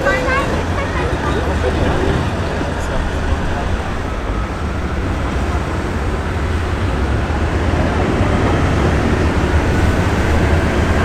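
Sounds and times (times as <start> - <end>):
engine deep rumble: 0.0 - 11.0.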